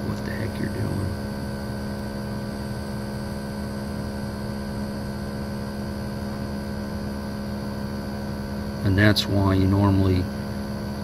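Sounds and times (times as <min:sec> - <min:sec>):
air conditioner unit humming: 0:00.0 - 0:11.0.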